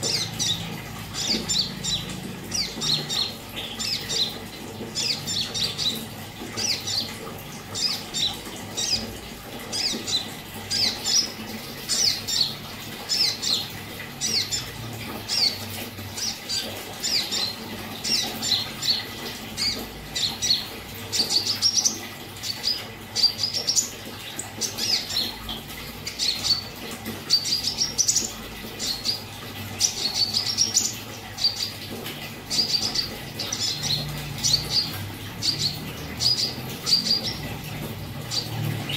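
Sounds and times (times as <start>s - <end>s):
bird singing rapid high chirps: 0.0s - 31.8s, 32.4s - 38.9s.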